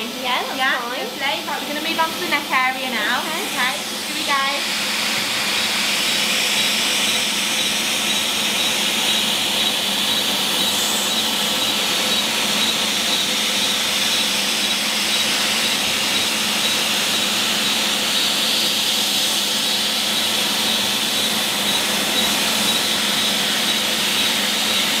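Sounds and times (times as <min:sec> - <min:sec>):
machine airy hiss: 0:00.1 - 0:25.0.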